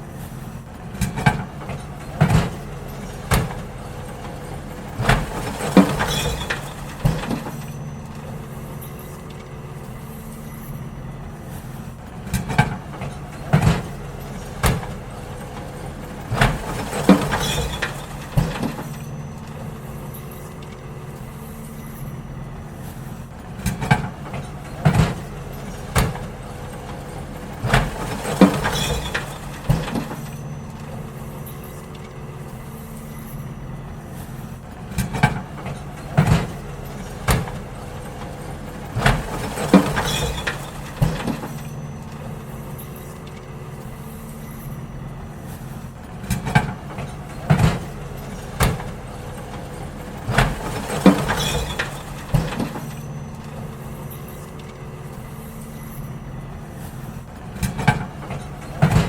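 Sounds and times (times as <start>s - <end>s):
bins banging and clattering: 0.0s - 59.0s
garbage truck engine hum: 0.0s - 59.0s.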